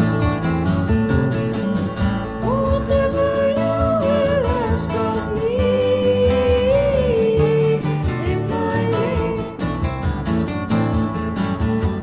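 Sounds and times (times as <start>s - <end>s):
guitar bass and drums: 0.0s - 12.0s
folk-rock song with singing: 1.7s - 12.0s.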